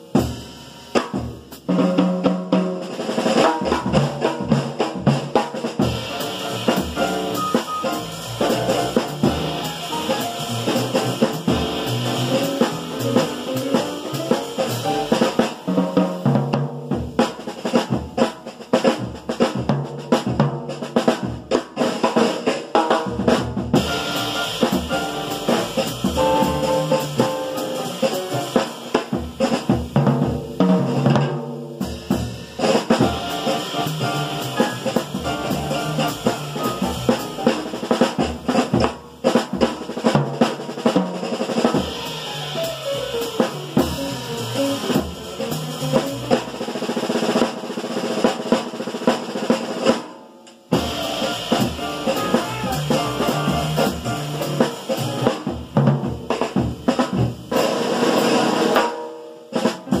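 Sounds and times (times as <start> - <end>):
jazz drum solo: 0.0 - 60.0.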